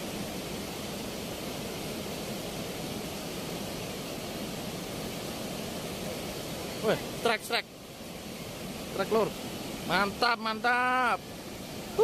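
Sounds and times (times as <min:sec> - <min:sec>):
water rushing through sluice gates: 0:00.0 - 0:12.0.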